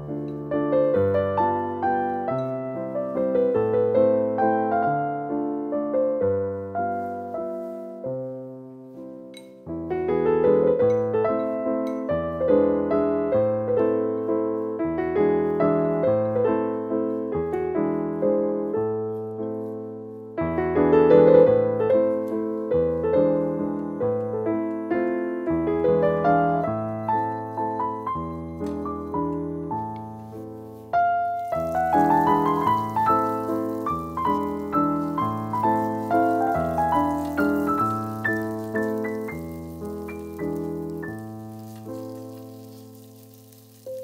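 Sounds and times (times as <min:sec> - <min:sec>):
solo piano music: 0:00.0 - 0:44.0.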